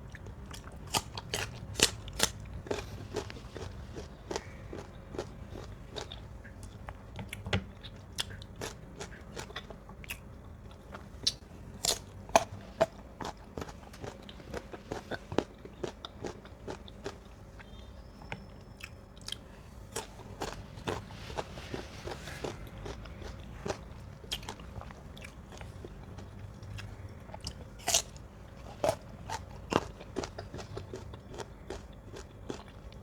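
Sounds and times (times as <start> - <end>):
crunchy bites and wet chewing: 0.0 - 33.0.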